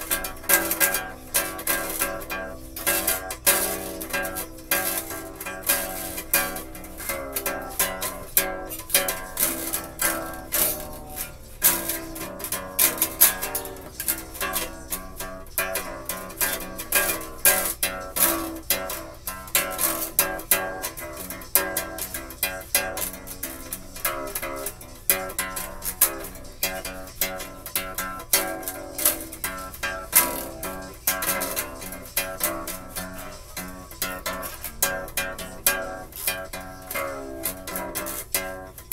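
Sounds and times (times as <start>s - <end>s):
ukulele chords: 0.0s - 38.9s.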